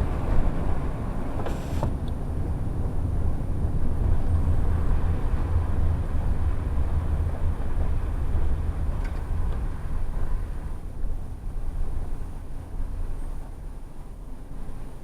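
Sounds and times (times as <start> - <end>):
bus engine rumble inside cabin: 0.0 - 15.0.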